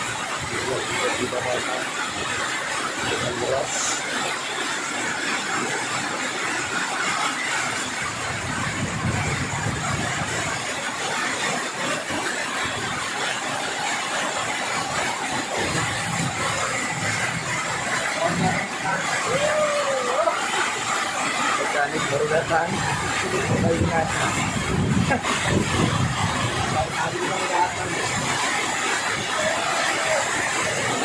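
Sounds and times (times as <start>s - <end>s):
heavy rain in strong wind: 0.0s - 31.0s.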